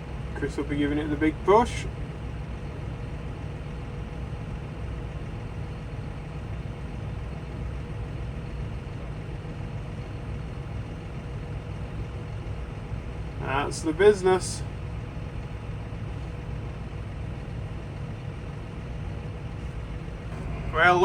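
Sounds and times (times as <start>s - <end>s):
faint steady hum: 0.0s - 21.0s
tractor engine running: 0.0s - 21.0s.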